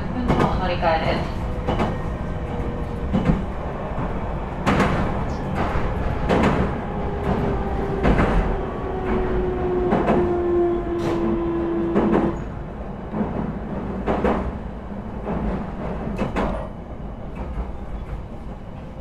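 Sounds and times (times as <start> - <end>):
track clacks: 0.0 - 18.9
train rumble on track: 0.0 - 19.0.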